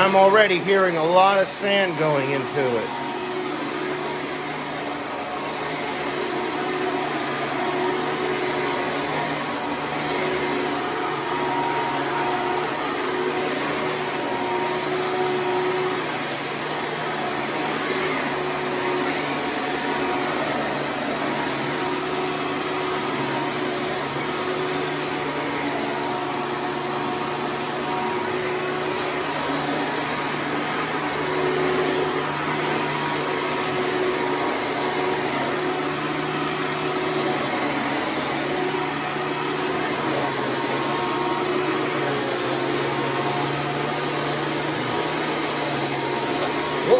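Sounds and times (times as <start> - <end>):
upright vacuum cleaner running: 0.0 - 46.9.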